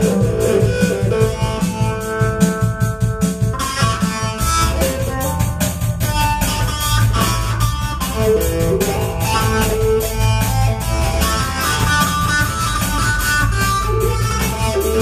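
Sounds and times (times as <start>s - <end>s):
deep bass guitar line: 0.0s - 15.0s
sampled drums: 0.0s - 15.0s.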